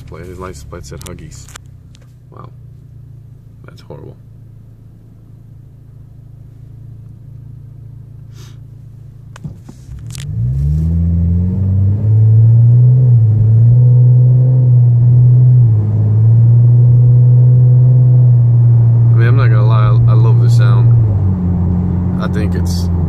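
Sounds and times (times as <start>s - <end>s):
car engine idling: 0.0s - 10.4s, 14.8s - 23.0s
car exhaust accelerating: 0.0s - 23.0s.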